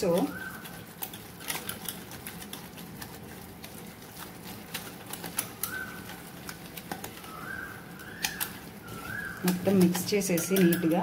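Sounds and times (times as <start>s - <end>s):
whisk beating batter in metal bowl: 0.0s - 11.0s.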